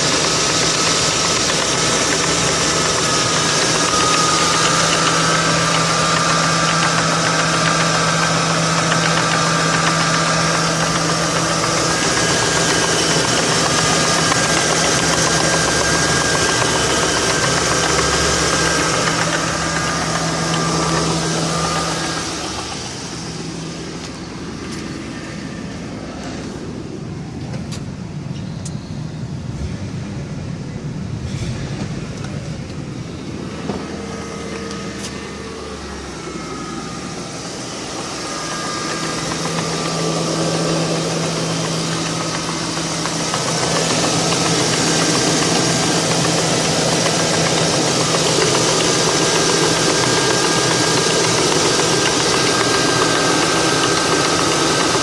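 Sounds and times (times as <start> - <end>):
engine knocking: 0.0 - 25.4, 34.2 - 55.0
car engine running: 0.0 - 55.0.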